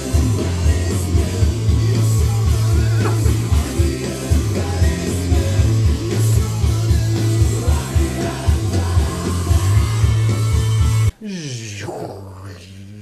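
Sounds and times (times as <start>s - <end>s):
electric guitar: 0.0s - 11.1s
pulsing bass line: 0.0s - 11.1s
person singing: 0.0s - 13.0s.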